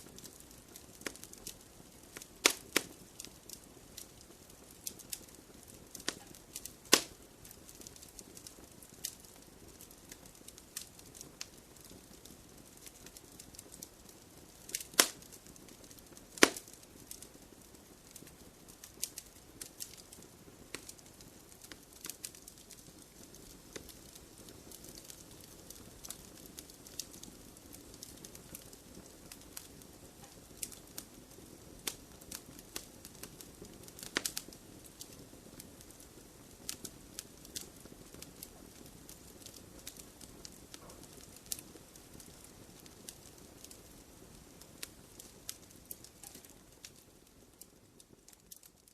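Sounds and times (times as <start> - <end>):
fire crackling: 0.0 - 48.9
soft low hiss: 0.0 - 48.9
loud fire pops: 0.1 - 47.0.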